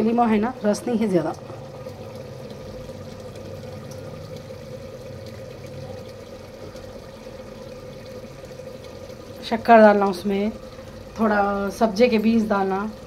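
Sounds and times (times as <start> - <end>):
juice dripping into plastic bottle: 0.0 - 13.0
steady hum: 0.0 - 13.0.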